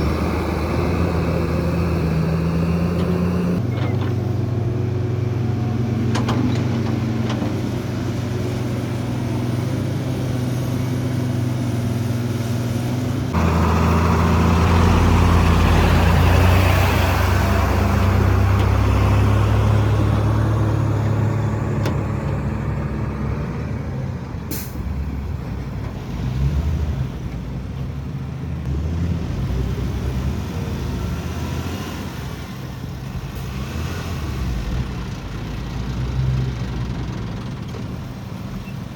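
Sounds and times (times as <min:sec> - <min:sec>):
diesel construction machinery: 0:00.0 - 0:38.9.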